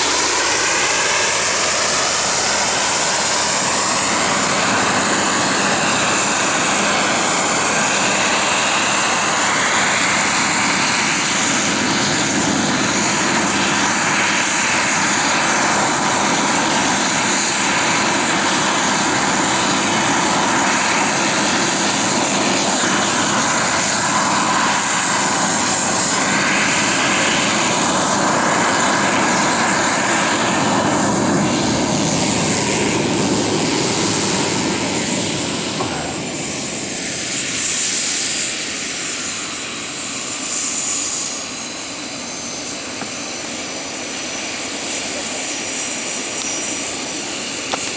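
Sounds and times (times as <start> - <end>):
model helicopter whine: 0.0 - 47.9.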